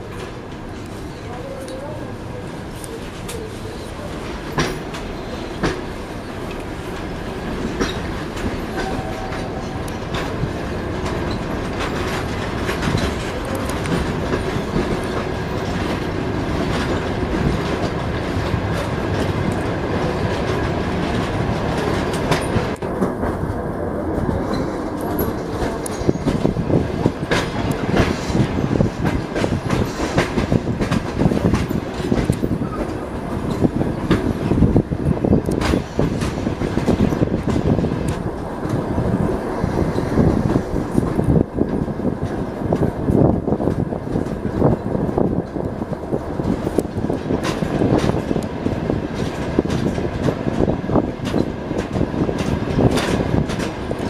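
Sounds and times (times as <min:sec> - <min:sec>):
train wheels clattering over rail joints: 0:03.0 - 0:54.0.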